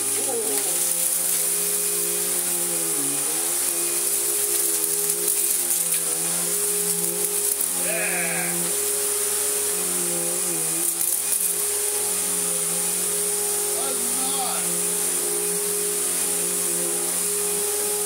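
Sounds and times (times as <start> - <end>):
rushing air hiss: 0.0 - 18.0
vacuum cleaner motor hum: 0.0 - 18.0.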